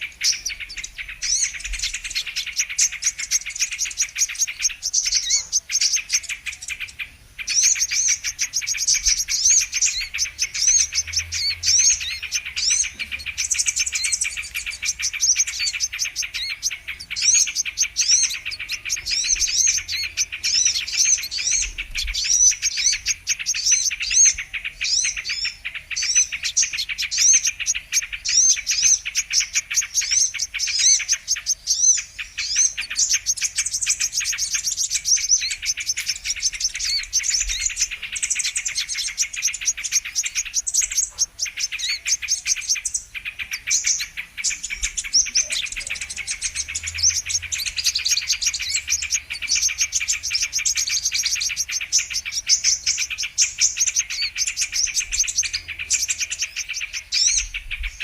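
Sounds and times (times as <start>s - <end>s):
sunbirds chirping and twittering: 0.0s - 58.0s.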